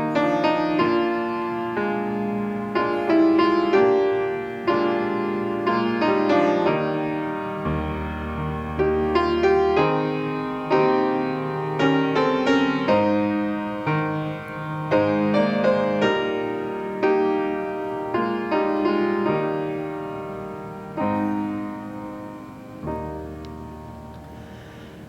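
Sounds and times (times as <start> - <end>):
piano playing gentle chords: 0.0 - 25.0.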